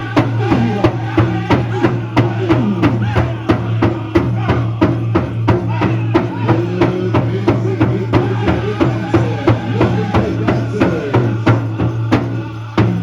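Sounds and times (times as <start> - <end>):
large drum steady beat: 0.0 - 13.0
voices singing in unison: 0.0 - 13.0.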